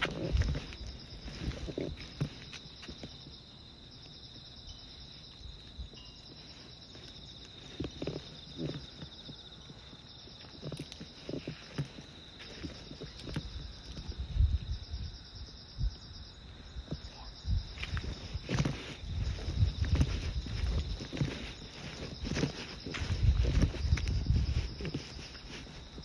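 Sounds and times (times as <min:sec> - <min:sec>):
footsteps on path: 0:00.0 - 0:26.0
insects chirping: 0:00.0 - 0:26.0.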